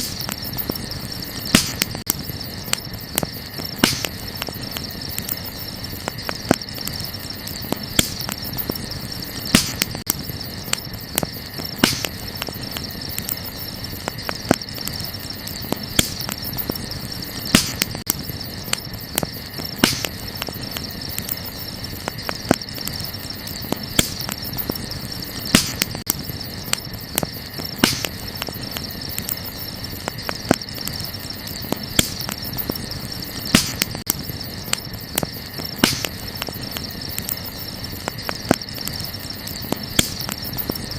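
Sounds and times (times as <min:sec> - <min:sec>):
campfire crackling and popping: 0:00.0 - 0:40.9
night insects chirring: 0:00.0 - 0:40.9.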